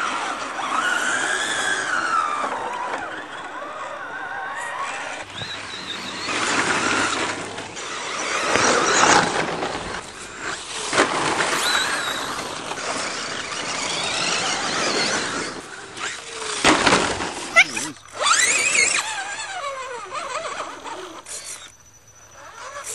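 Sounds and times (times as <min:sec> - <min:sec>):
high-pitched motor whine: 0:00.0 - 0:22.9
tyres scrabbling on dirt: 0:00.0 - 0:22.9.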